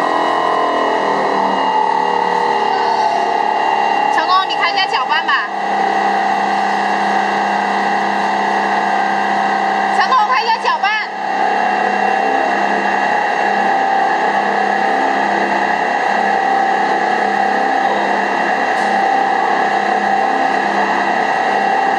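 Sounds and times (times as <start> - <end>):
mixer machine humming: 0.0 - 21.9.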